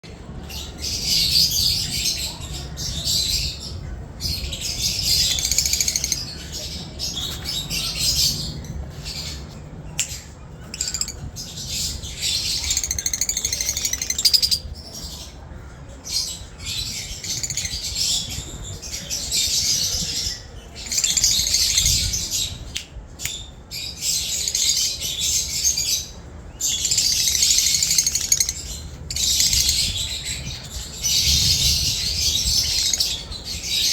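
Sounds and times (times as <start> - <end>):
lovebirds chattering and squawking: 0.1 - 33.9.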